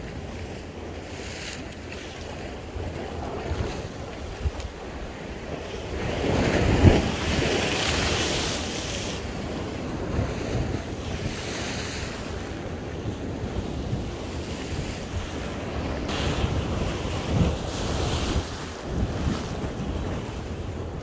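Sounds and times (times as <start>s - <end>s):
sea waves washing ashore: 0.0s - 21.0s
wind buffeting microphone: 0.0s - 21.0s.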